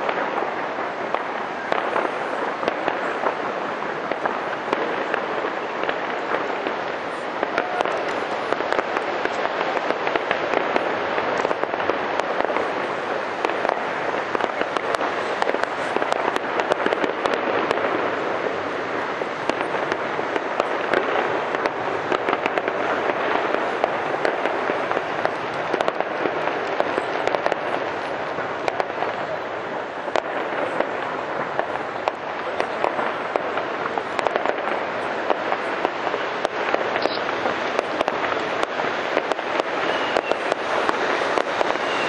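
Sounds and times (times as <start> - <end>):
fireworks crackling and cracking: 0.0 - 42.0.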